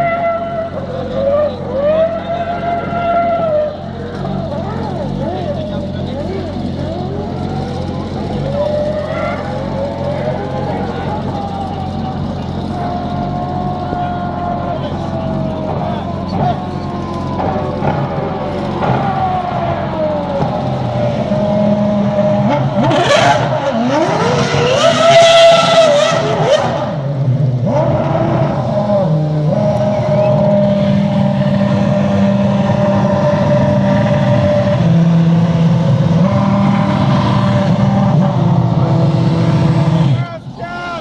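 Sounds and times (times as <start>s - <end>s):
racing car engine revving: 0.0s - 40.6s.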